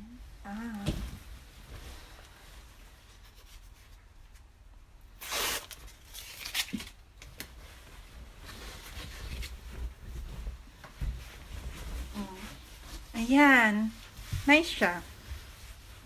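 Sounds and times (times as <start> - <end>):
fabric rustling: 0.5 - 4.5, 7.1 - 16.0.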